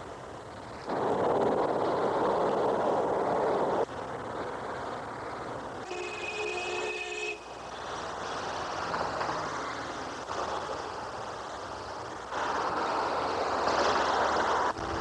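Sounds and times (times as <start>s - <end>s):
city street roar: 0.0s - 15.0s.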